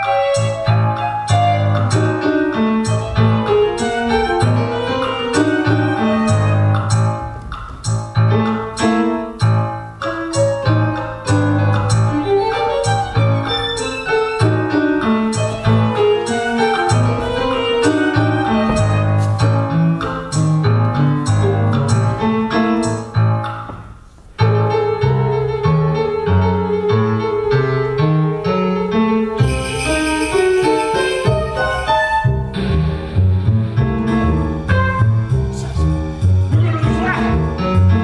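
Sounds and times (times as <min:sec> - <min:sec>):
piano music with quick notes: 0:00.0 - 0:38.0.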